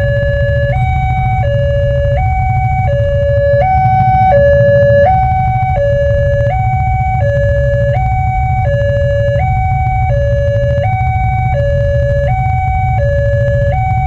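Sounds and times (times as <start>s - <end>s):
level crossing warning siren: 0.0s - 14.0s
low rumble: 0.0s - 14.0s.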